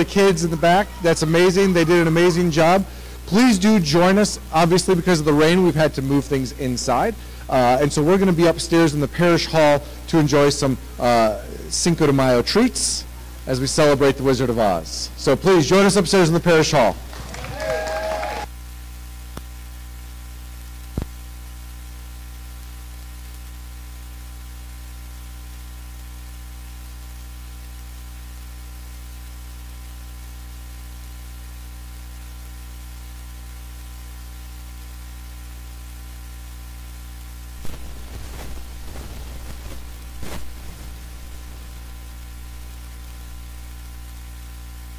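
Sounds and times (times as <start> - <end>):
electrical hum with hiss: 0.0 - 44.9.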